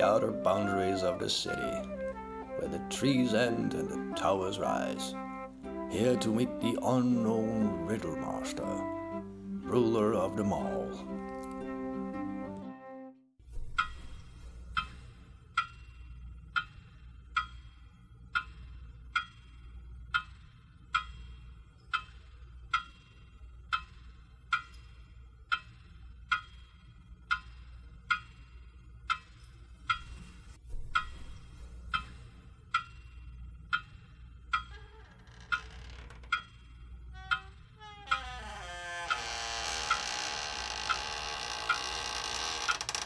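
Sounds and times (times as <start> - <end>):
clock ticking: 0.0 - 11.6, 13.5 - 43.0.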